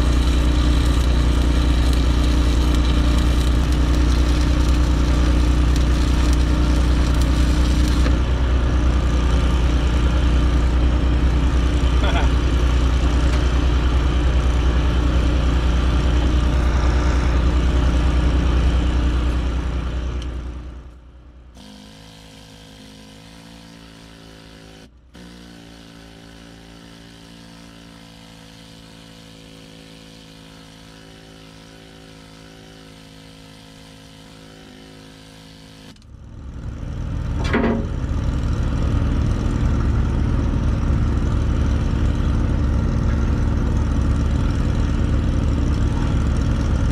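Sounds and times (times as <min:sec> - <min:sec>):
welding machine engine revving and idling: 0:00.0 - 0:46.9.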